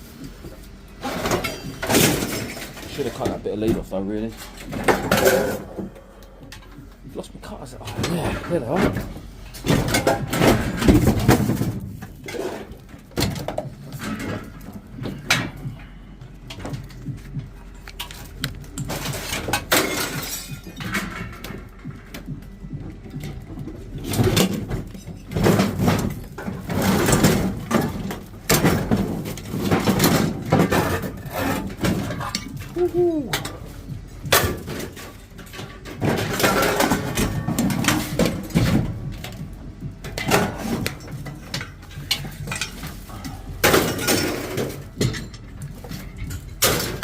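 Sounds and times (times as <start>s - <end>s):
scrap metal clanking and rattling: 1.0s - 47.0s.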